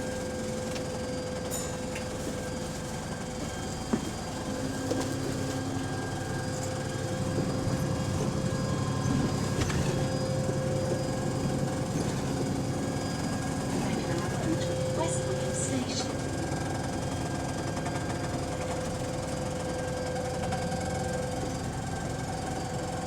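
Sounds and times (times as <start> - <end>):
bus engine and road noise: 0.0 - 23.0
bus gearbox whine: 0.0 - 23.0.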